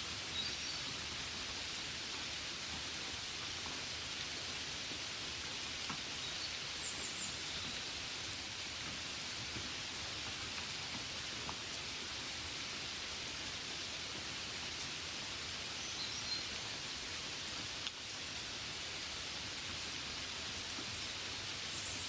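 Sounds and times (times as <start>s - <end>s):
gentle steady rain: 0.0s - 22.0s.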